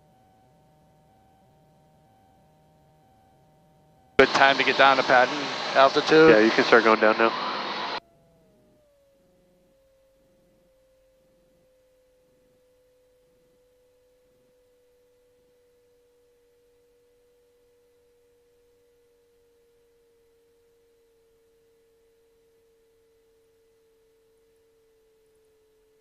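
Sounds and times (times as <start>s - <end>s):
faint electrical whine: 0.0s - 26.0s.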